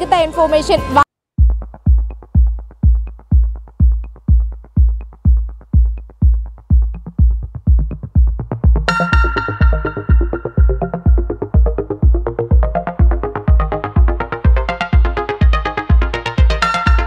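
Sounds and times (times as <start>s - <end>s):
electronic music with kick drum: 1.3s - 17.0s
high synth layer: 1.6s - 17.0s.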